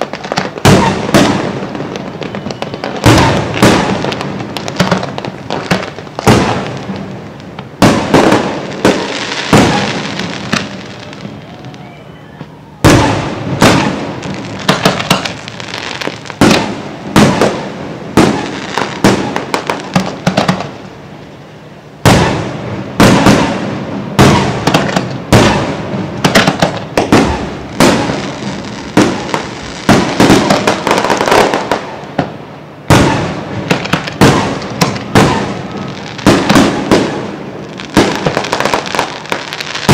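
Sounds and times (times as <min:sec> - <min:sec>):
fireworks bursting with echoes: 0:00.0 - 0:39.9.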